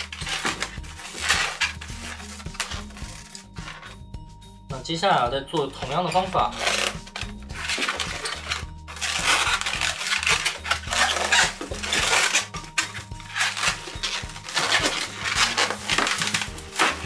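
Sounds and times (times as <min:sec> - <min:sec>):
balloons squeaking and rubbing: 0:00.0 - 0:04.1, 0:05.5 - 0:17.0.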